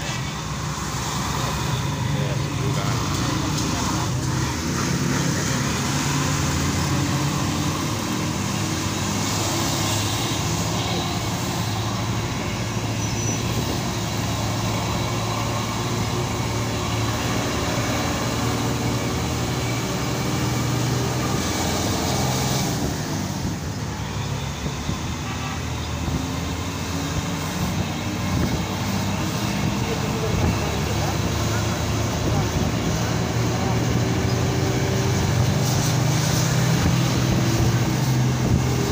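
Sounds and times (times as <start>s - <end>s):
bus engine running: 0.0s - 38.9s
road noise: 0.0s - 38.9s.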